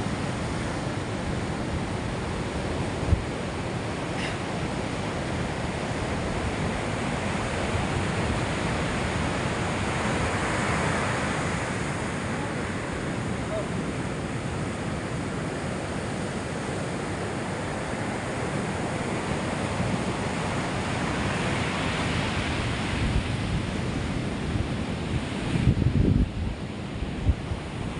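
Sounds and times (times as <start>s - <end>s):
surf breaking on beach: 0.0s - 27.9s.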